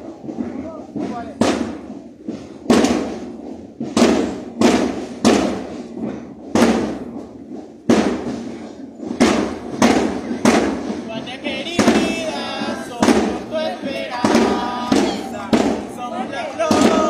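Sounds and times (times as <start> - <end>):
marching drums: 0.0 - 17.0.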